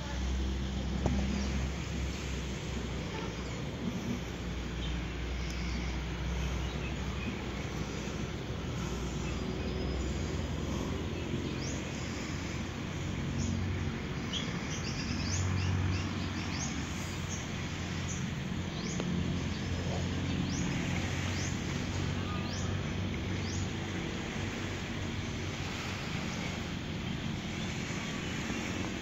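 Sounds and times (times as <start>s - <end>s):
birds chirping: 0.0s - 29.0s
low hum and hiss: 0.0s - 29.0s.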